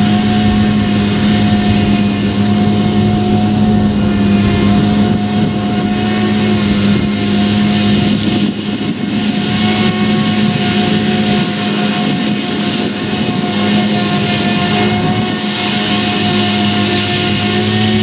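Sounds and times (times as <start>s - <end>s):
forage harvester drone: 0.0s - 18.0s
higher machine whine: 0.0s - 18.0s.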